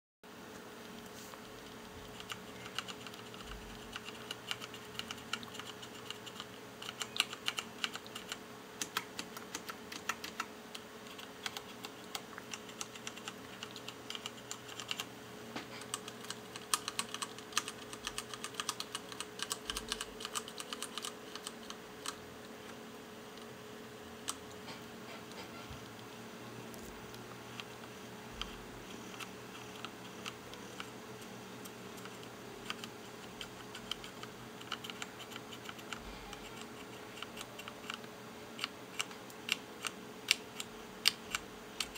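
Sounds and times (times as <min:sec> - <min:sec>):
faint steady hum: 0:00.3 - 0:41.9
mechanical keyboard typing: 0:00.8 - 0:15.1, 0:15.8 - 0:23.5, 0:24.2 - 0:24.6, 0:27.5 - 0:41.9.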